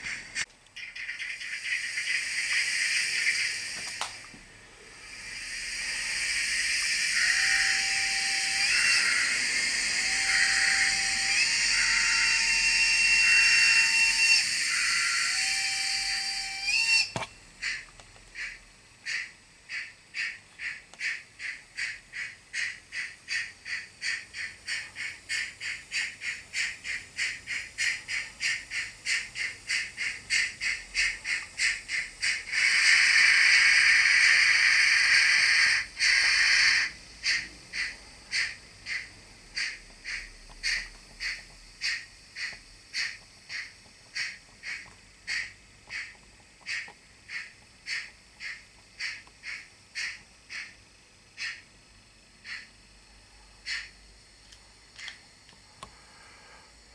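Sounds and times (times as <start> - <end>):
model steam locomotive chuffing: 0.0 - 51.7, 52.3 - 54.0
steam hiss: 1.2 - 17.8, 18.4 - 50.8, 55.9 - 56.9.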